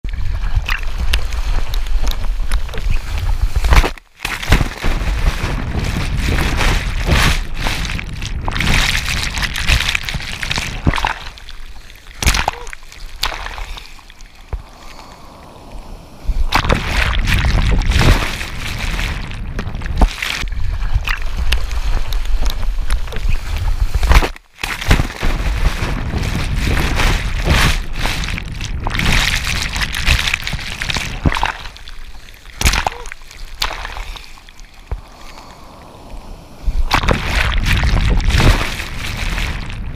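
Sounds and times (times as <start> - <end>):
whitewater rushing and splashing: 0.2 - 39.9.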